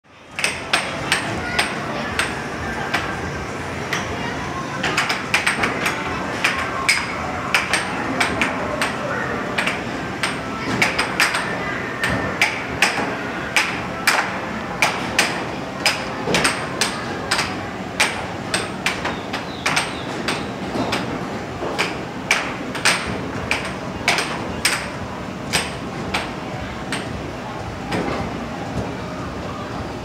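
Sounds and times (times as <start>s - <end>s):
air hockey puck clacking: 0.3s - 3.2s, 4.8s - 9.0s, 9.6s - 27.1s.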